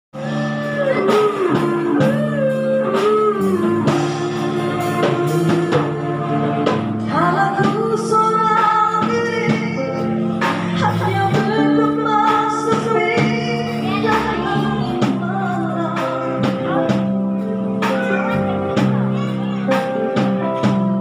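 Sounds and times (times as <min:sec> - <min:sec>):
drums: 0:00.1 - 0:21.0
electric bass: 0:00.1 - 0:21.0
electric guitar: 0:00.1 - 0:21.0
woman singing into microphone: 0:00.2 - 0:17.2.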